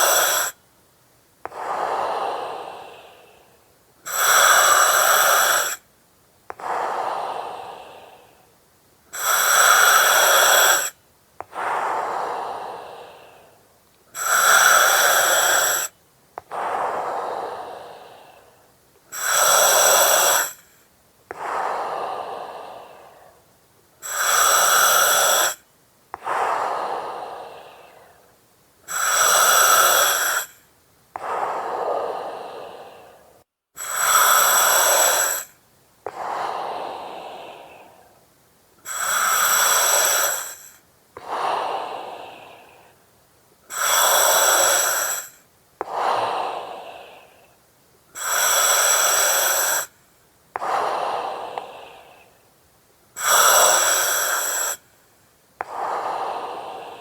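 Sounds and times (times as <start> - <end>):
breathing through oxygen mask: 0.0 - 0.6, 1.5 - 5.8, 9.1 - 25.6, 26.2 - 28.3, 28.9 - 30.6, 31.2 - 38.2, 38.8 - 43.0, 43.7 - 47.6, 48.2 - 50.0, 50.6 - 52.3, 53.2 - 54.9, 55.6 - 57.0.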